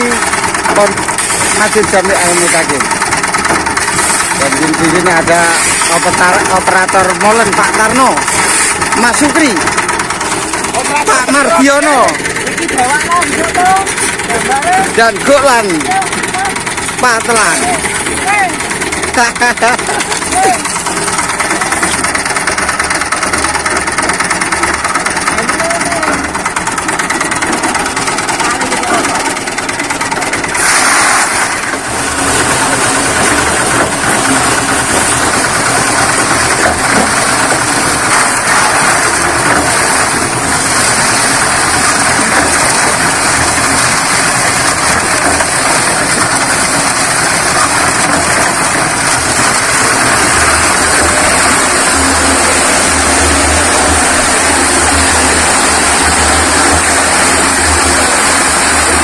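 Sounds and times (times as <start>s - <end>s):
concrete mixer running: 0.0s - 59.0s.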